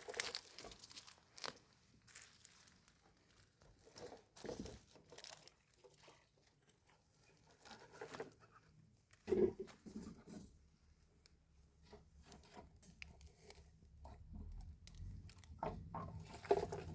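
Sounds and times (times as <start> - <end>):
rustling and handling noises: 0.0 - 16.9.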